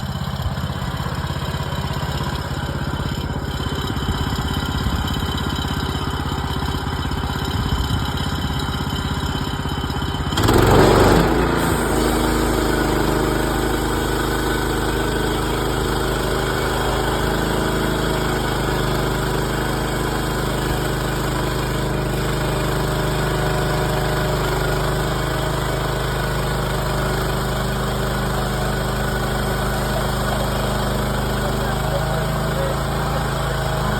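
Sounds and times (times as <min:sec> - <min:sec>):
sawmill engine running: 0:00.0 - 0:33.9.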